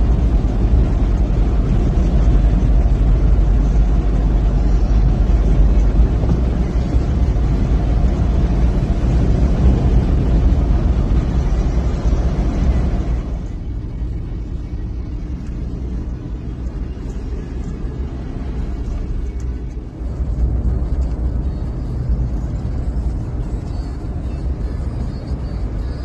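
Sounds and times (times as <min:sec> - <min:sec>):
pickup engine rumble: 0:00.0 - 0:26.0
road noise: 0:00.0 - 0:26.0.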